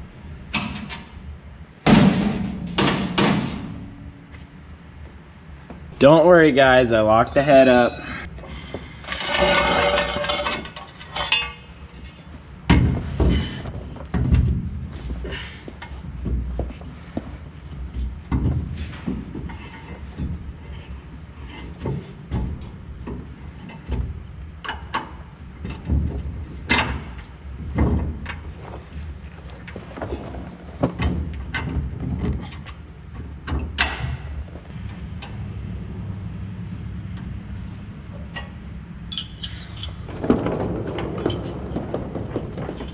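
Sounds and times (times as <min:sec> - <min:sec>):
low hum: 0:00.0 - 0:24.8, 0:31.5 - 0:42.9
metal knocks and clanks: 0:01.9 - 0:05.9, 0:07.1 - 0:35.3, 0:38.1 - 0:42.9.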